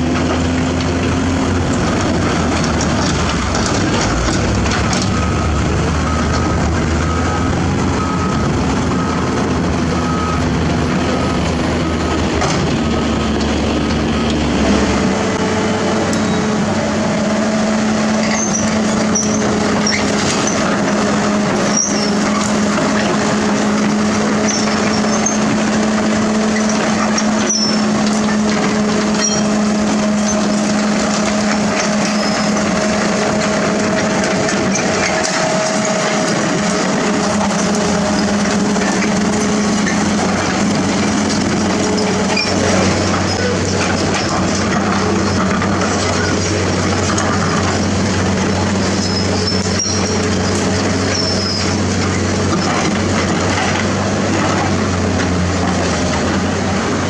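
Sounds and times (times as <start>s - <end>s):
excavator engines and hydraulics: 0.0s - 57.0s
truck diesel engine: 0.0s - 57.0s.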